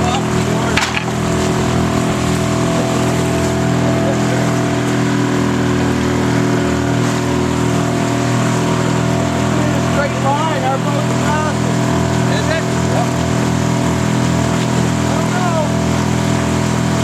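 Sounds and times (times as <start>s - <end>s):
boat motor running: 0.0s - 17.0s
rushing water: 0.0s - 17.0s.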